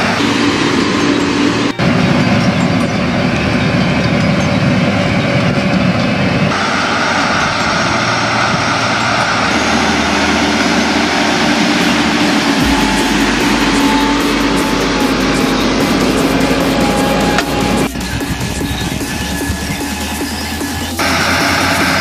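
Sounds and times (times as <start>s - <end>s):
tracked tractor engine and tracks: 0.0s - 22.0s.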